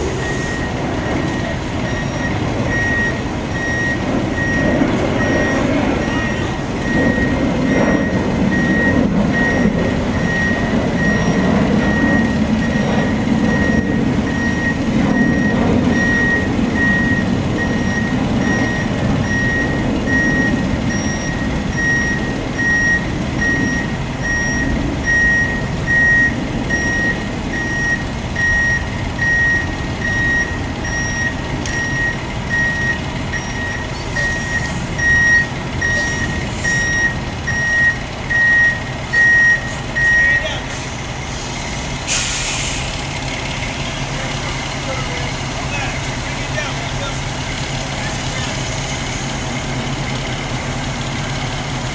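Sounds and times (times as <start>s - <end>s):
diesel engine running: 0.0s - 51.9s
truck backup alarm beeping: 0.0s - 51.9s.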